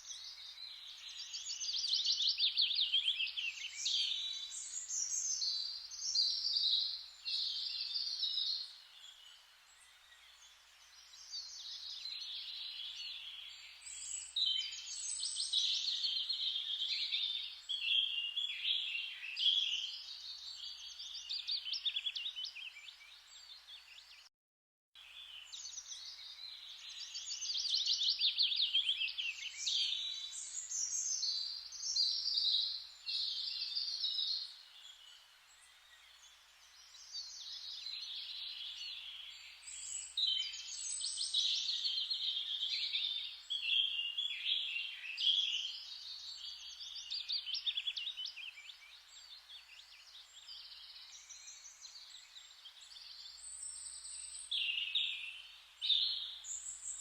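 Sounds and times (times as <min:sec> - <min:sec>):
faint forest hiss: 0:00.0 - 0:24.3, 0:25.0 - 0:57.0
songbirds singing and chirping: 0:00.0 - 0:24.3, 0:25.0 - 0:57.0.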